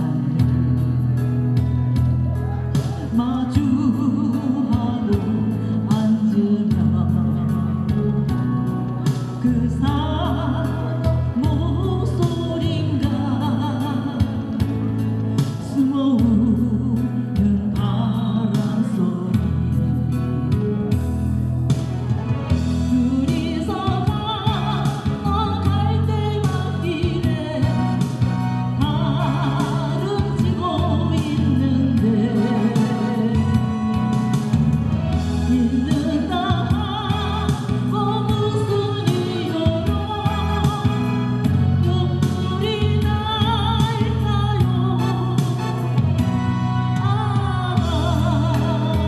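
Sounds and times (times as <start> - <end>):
woman singing with vibrato: 0.0 - 1.0, 2.7 - 20.2, 22.6 - 49.0
instrumental backing track: 0.0 - 49.0.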